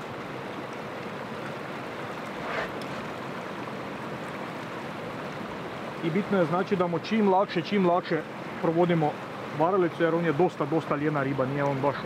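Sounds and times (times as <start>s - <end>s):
water rushing over a dam: 0.0s - 12.0s.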